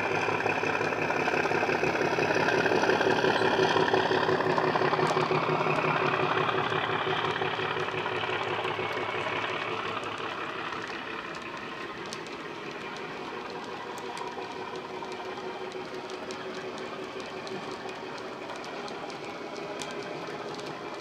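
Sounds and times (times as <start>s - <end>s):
model diesel engine sound: 0.0s - 21.0s
model wagon wheels clicking: 0.0s - 21.0s.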